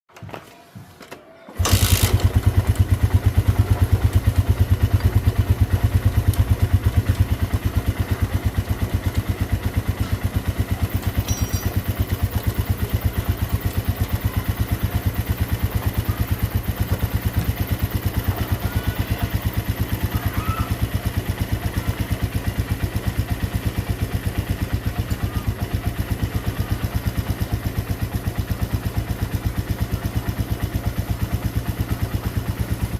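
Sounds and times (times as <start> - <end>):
motorcycle engine starting and idling: 1.5 - 32.9.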